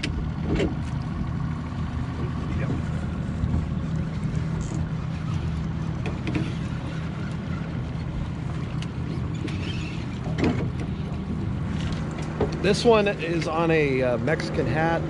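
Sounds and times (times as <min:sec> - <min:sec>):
outboard motor humming: 0:00.0 - 0:15.0
water noise: 0:00.0 - 0:15.0.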